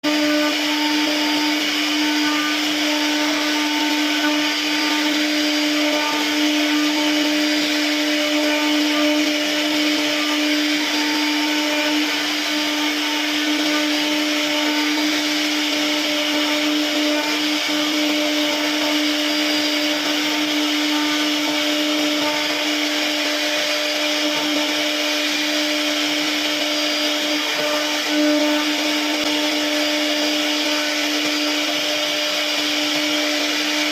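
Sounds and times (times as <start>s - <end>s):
router spindle whine: 0.0s - 33.9s.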